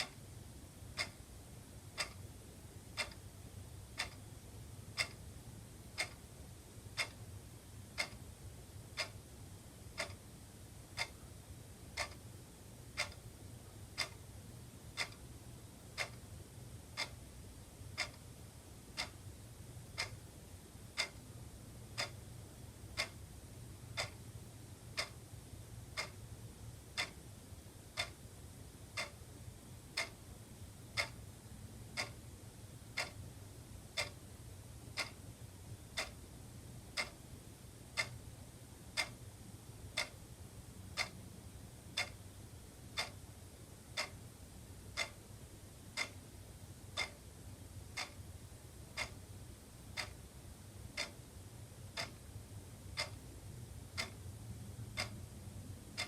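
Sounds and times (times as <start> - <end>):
faint low hum: 0.0 - 56.0
wall clock ticking: 0.0 - 56.0.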